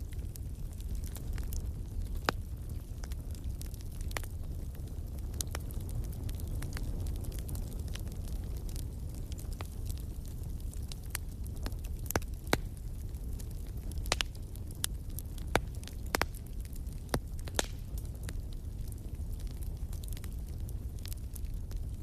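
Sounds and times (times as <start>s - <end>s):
burning logs popping: 0.0s - 22.0s
fire rumbling in fireplace: 0.0s - 22.0s.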